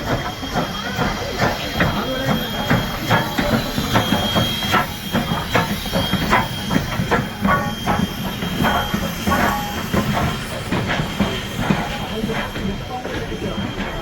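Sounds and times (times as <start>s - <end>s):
sharp rail clacks: 0.0s - 14.0s
train rumble and hiss: 0.0s - 14.0s.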